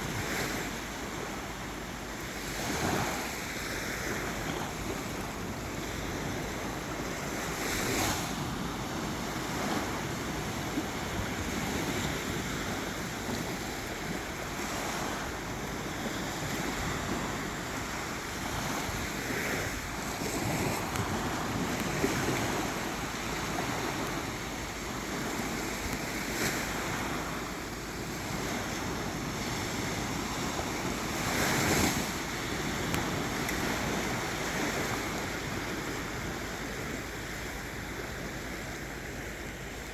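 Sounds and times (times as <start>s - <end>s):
surf washing onto beach: 0.0s - 39.9s
waves breaking: 0.0s - 39.9s.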